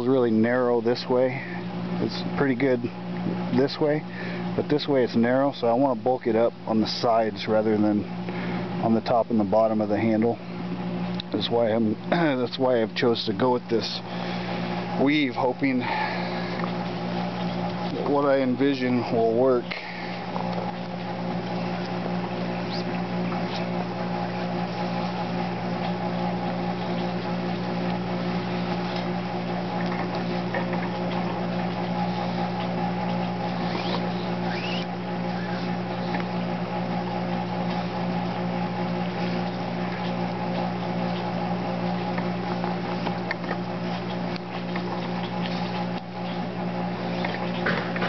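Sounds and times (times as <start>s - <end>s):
steady machine hum: 0.0s - 48.0s.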